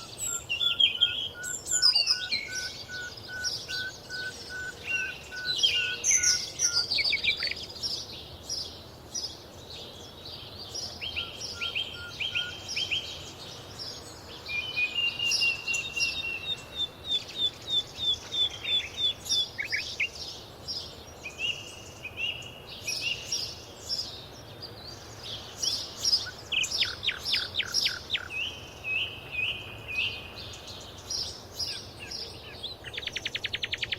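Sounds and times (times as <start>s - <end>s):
songbirds singing and calling: 0.0s - 33.9s.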